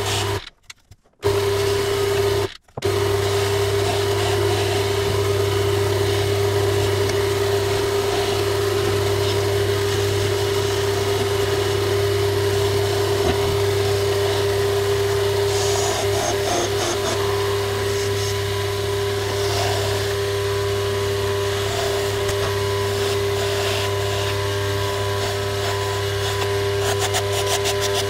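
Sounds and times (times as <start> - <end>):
chisel cutting spinning wood: 1.2 - 28.0
lathe motor humming: 1.2 - 28.0.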